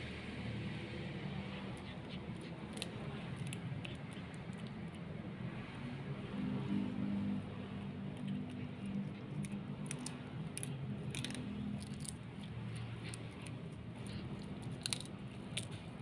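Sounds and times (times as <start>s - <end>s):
kitten crunching on bone: 1.2s - 5.8s, 6.4s - 16.0s.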